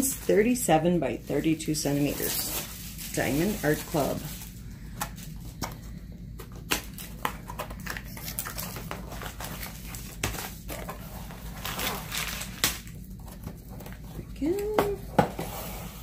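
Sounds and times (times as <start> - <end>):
cardboard and plastic rustling: 0.0 - 16.0
low steady hum: 0.0 - 16.0.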